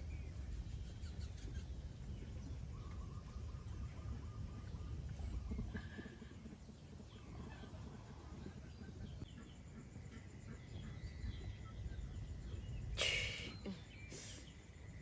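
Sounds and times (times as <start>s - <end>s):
faint bird calls: 0.0s - 15.0s
faint insect calls: 0.0s - 15.0s.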